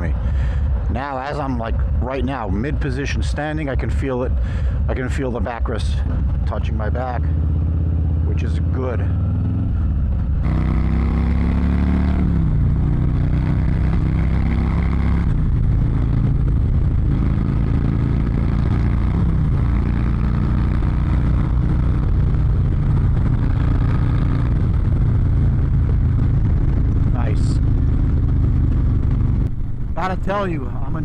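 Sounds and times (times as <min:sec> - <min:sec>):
motorcycle accelerating: 0:00.0 - 0:31.0
wind and road noise: 0:00.0 - 0:31.0.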